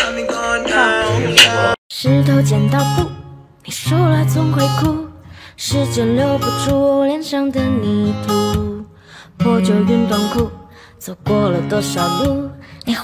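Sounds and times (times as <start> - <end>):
strummed acoustic guitar: 1.4 - 13.0.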